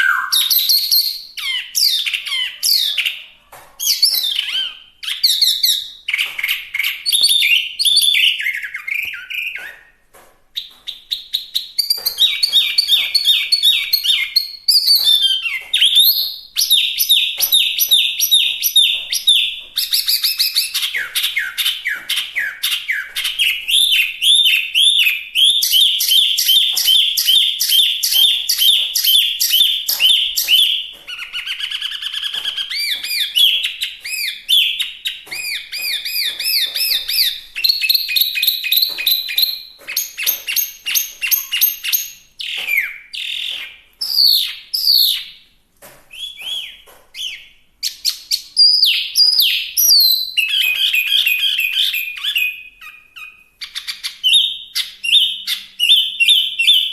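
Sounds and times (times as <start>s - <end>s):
songbird whistled song: 0.0s - 10.0s, 10.6s - 45.4s, 46.1s - 56.9s.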